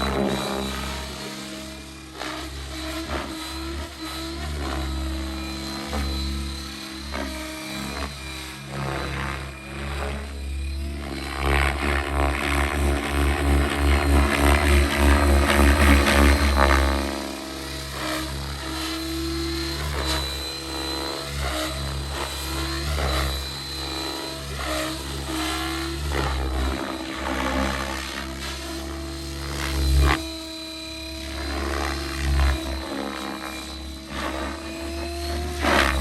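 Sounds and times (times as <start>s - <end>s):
helicopter rotor noise: 0.0s - 36.0s
high motor whine: 0.0s - 36.0s.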